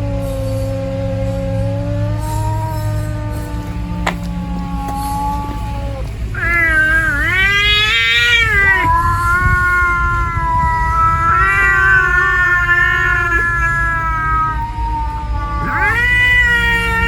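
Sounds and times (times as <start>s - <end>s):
cat yowling: 0.0s - 17.0s.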